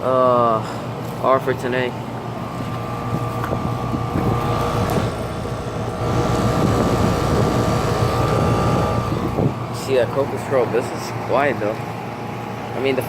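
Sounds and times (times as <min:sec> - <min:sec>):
compressor humming: 0:00.0 - 0:13.0
condenser fan air noise: 0:00.0 - 0:13.0.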